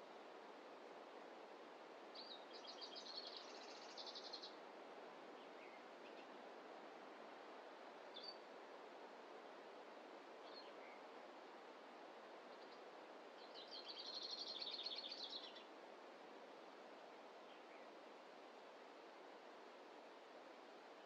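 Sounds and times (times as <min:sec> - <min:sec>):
faint background hiss: 0:00.0 - 0:21.0.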